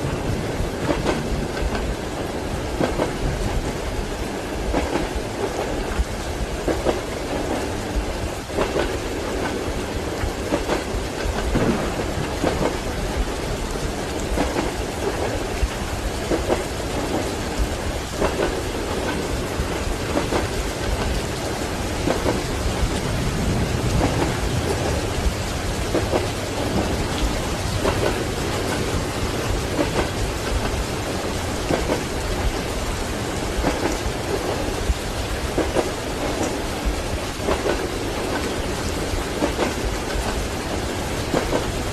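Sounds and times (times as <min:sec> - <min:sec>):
heavy rain: 0:00.0 - 0:41.9
rumbling thunder: 0:00.0 - 0:41.9
train wheels clacking on rails: 0:00.0 - 0:41.9.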